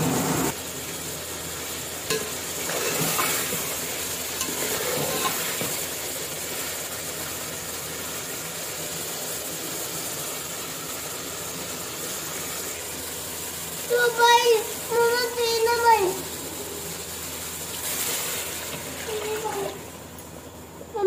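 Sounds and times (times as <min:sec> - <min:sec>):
chicken sizzling in a pot: 0:00.0 - 0:21.0.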